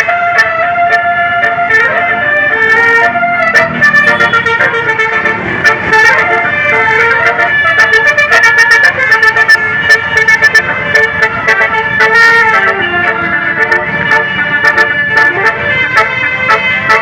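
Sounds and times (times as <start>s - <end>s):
musical air horn tune: 0.0s - 17.0s.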